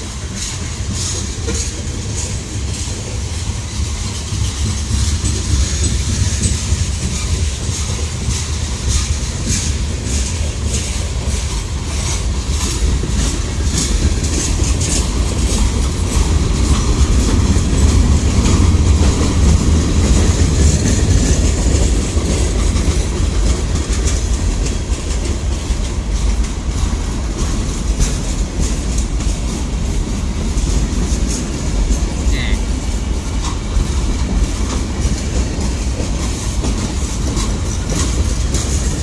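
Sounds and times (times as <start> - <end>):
freight train rumbling past: 0.0 - 39.0
wheels clicking over rail joints: 0.0 - 39.0.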